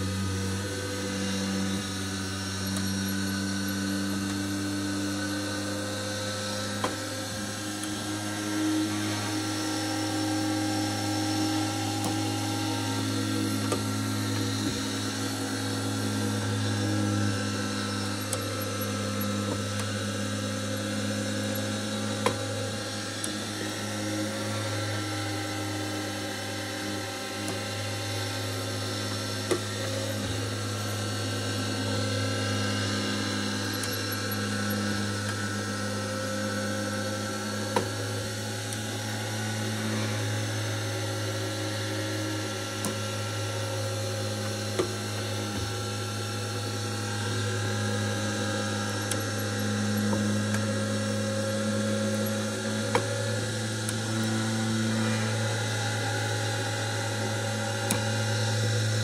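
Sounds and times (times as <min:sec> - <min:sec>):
motor hum with whirring gears: 0:00.0 - 0:59.0.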